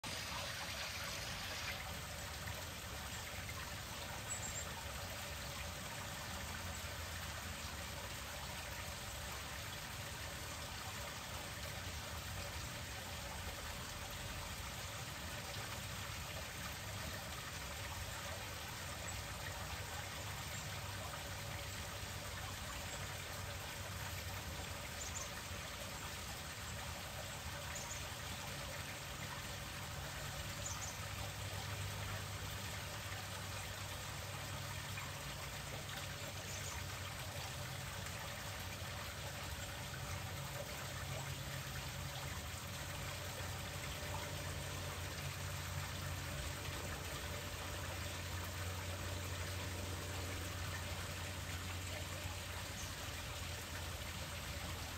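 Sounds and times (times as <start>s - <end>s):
small waterfall splashing over stones: 0.0s - 54.9s.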